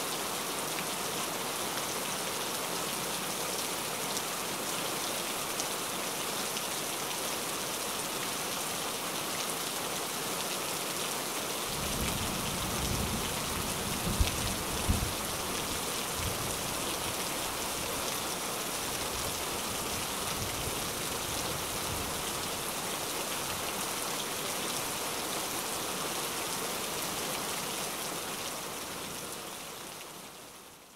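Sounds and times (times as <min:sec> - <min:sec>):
rain-like patter and hiss: 0:00.0 - 0:30.9.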